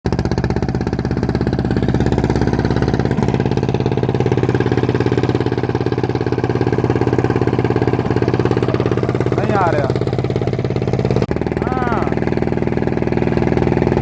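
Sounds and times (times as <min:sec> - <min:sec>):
stationary engine chugging: 0:00.1 - 0:14.0.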